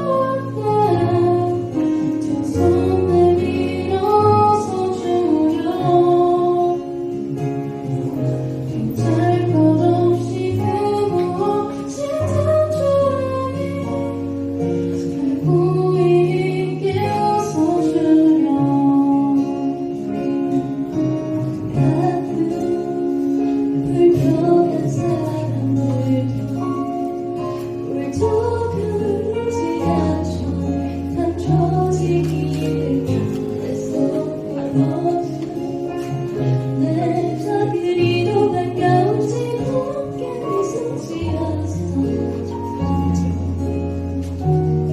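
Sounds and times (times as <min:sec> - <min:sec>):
acoustic guitar: 0:00.0 - 0:44.9
woman singing: 0:00.0 - 0:44.9.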